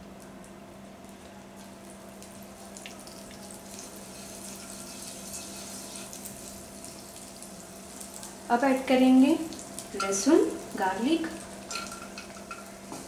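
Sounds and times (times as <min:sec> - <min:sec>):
butter sizzling in a pan: 0:01.6 - 0:13.0.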